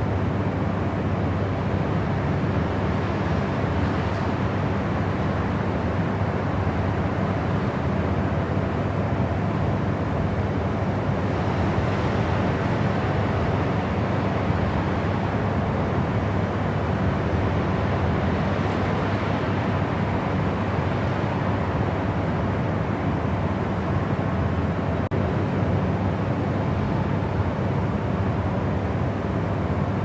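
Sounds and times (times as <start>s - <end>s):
steady white noise: 0.0s - 30.0s.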